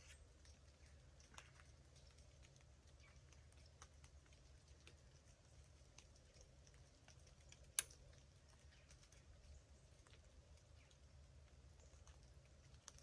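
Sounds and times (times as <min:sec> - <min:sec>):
faint ticks and chirps: 0:00.0 - 0:13.0.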